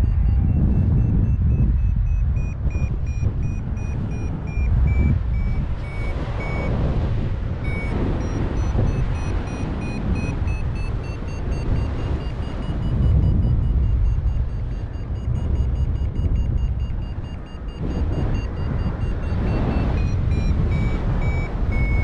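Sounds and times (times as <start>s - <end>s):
variometer beeping: 0.0s - 22.0s
wind noise on microphone: 0.0s - 22.0s.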